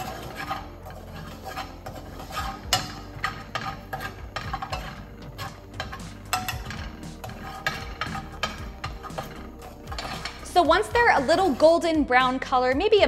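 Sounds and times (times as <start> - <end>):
tongs clicking and scraping in pan: 0.0 - 11.8.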